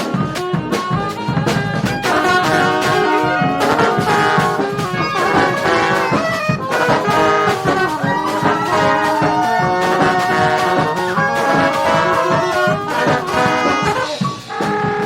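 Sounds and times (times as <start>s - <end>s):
brass band playing: 0.0s - 15.0s
drum beat: 0.0s - 15.0s.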